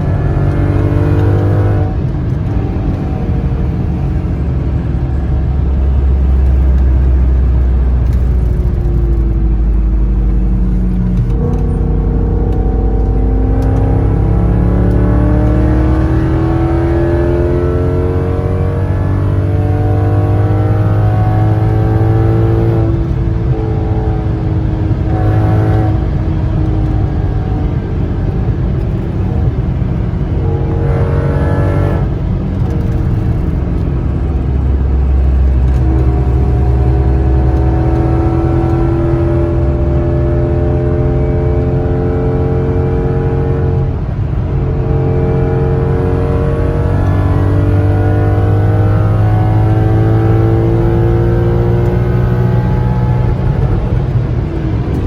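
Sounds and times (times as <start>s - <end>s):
car engine under hard throttle: 0.0s - 55.0s.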